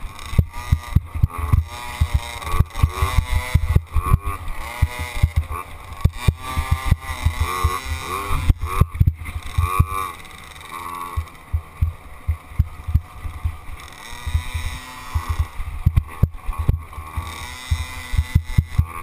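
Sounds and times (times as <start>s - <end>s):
low thumps from bumps: 0.0s - 10.1s, 11.1s - 19.0s
dirt bike engine revving: 0.0s - 19.0s.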